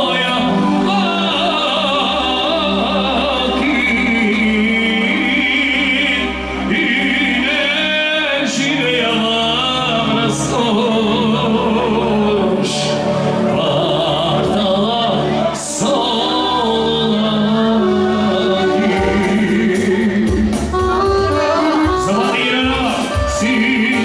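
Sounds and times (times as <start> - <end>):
instrumental backing music: 0.0 - 24.0
man singing into a microphone: 0.0 - 24.0.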